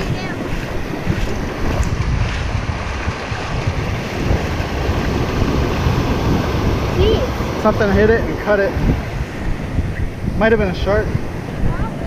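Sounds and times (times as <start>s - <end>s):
shallow surf breaking: 0.0s - 12.0s
wind buffeting microphone: 0.0s - 12.0s.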